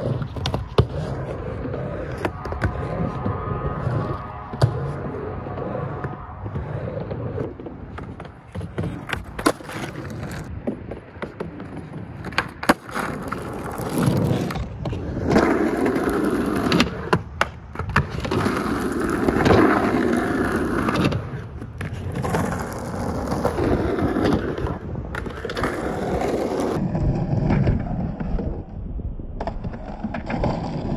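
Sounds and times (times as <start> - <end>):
skateboard clacking: 0.0 - 28.3
skateboard wheels rolling on concrete: 0.0 - 30.9.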